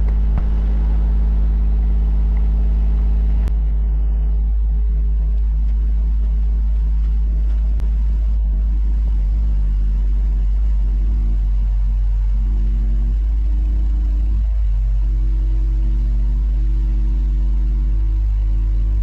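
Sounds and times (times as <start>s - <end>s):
car engine exhaust at fast idle: 0.0s - 19.0s.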